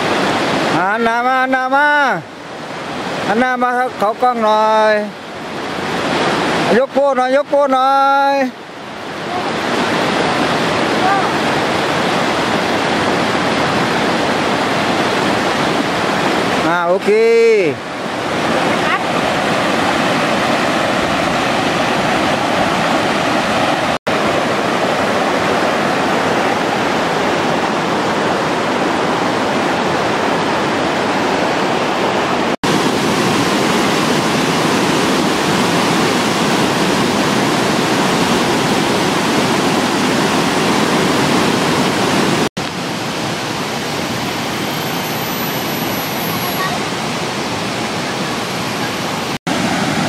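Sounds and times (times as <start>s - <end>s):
waterfall rapids rushing over rock: 0.0s - 50.0s.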